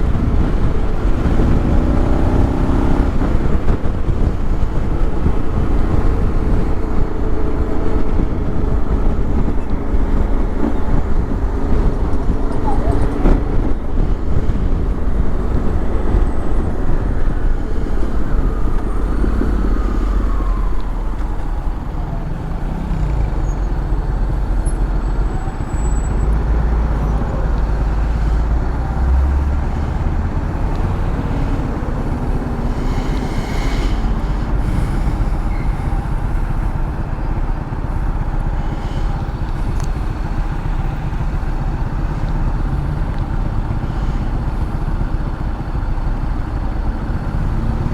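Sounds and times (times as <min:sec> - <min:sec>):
wind rumble on microphone: 0:00.0 - 0:47.9.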